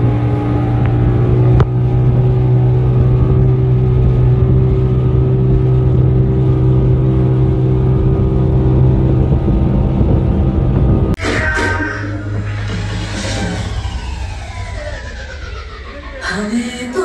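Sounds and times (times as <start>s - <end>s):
speedboat engine drone: 0.0s - 17.0s
wind: 0.0s - 17.0s.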